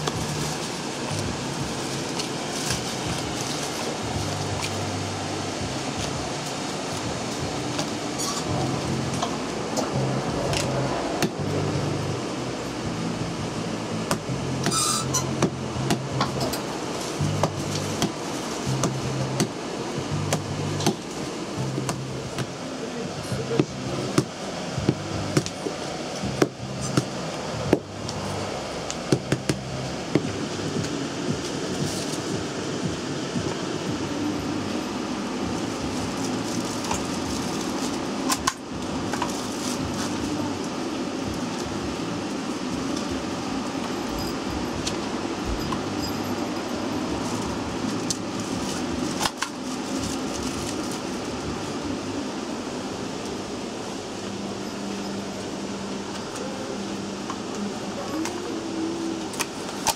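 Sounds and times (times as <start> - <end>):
low background music: 0.0 - 59.9
ventilation hum: 0.0 - 59.9.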